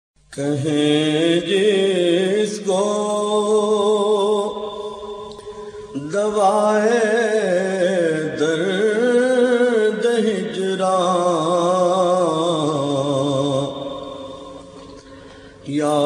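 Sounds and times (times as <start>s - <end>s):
man singing: 0.3s - 14.8s, 15.6s - 16.0s.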